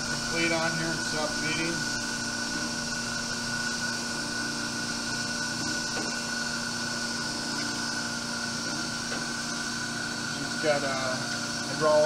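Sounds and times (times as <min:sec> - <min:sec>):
grinder machine drone: 0:00.0 - 0:12.0
high whine: 0:00.0 - 0:12.0.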